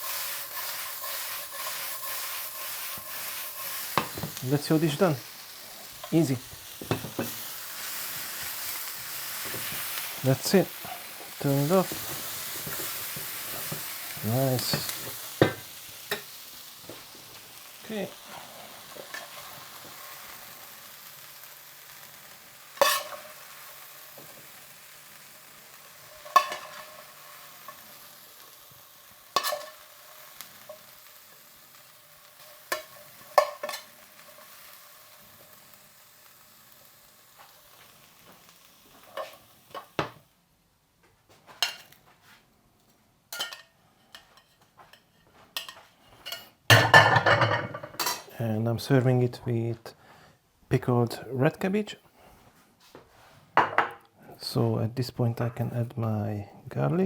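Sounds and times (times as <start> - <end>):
potatoes sizzling in a pan: 0.0 - 40.4, 41.5 - 42.0, 43.1 - 49.1.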